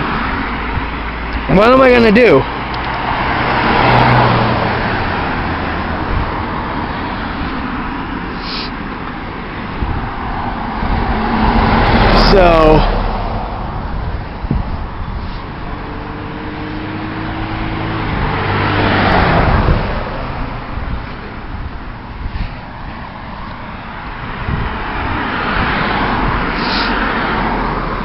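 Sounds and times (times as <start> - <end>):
cars going past: 0.0 - 28.0.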